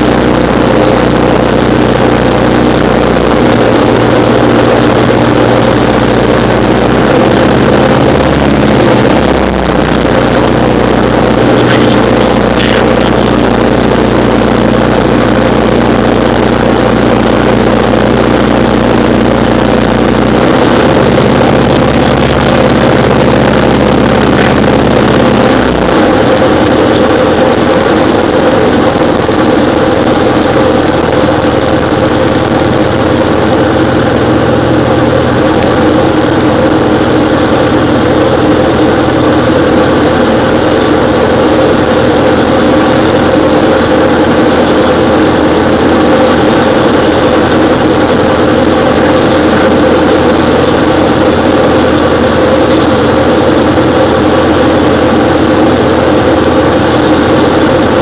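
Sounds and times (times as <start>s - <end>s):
aircraft engine and propeller: 0.0s - 58.0s.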